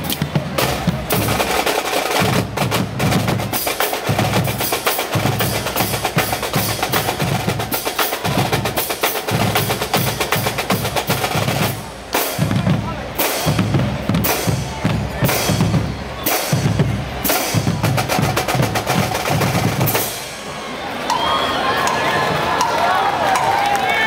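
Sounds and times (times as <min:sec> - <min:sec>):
snare drum patterns and rolls: 0:00.0 - 0:23.7.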